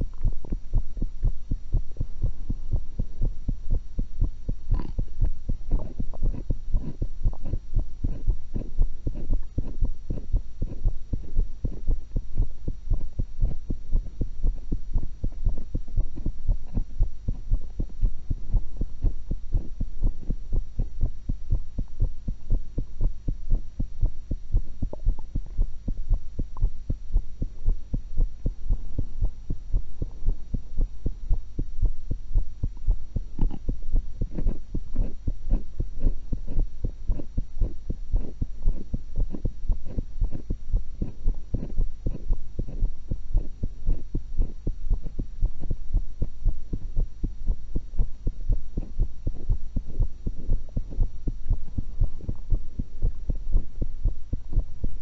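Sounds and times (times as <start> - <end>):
heartbeat through stethoscope: 0.0 - 55.0.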